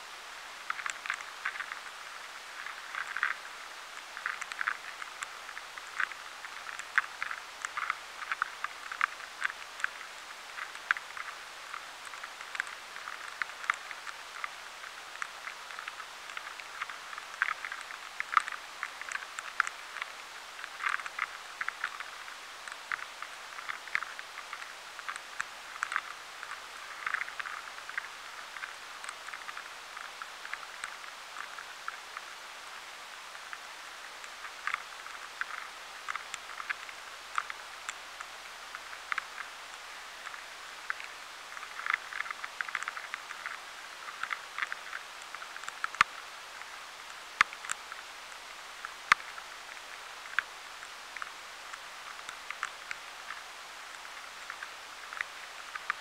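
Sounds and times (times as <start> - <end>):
steady hiss: 0.0 - 56.0
tiny clicks of larvae: 0.1 - 56.0.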